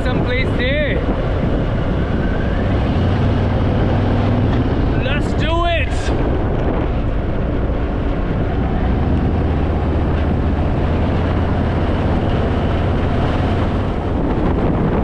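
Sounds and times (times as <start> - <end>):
wind rush over microphone: 0.0 - 15.0.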